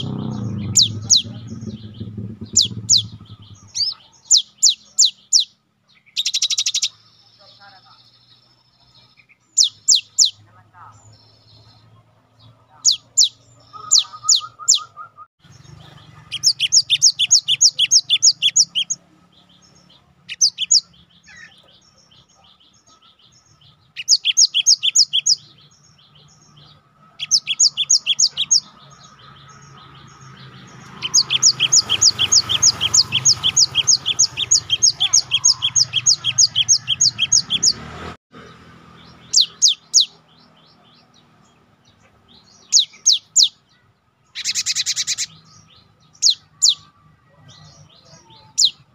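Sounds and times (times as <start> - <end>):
bird singing high sharp notes: 0.0 - 8.4, 9.0 - 11.9, 12.8 - 41.1, 42.3 - 43.6, 44.3 - 46.9.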